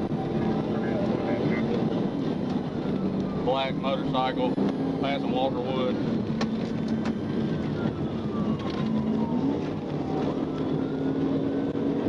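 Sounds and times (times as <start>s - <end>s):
siren wailing: 0.0s - 6.0s, 7.0s - 12.0s
car engine drone: 0.0s - 12.0s
road and wind noise: 0.0s - 12.0s.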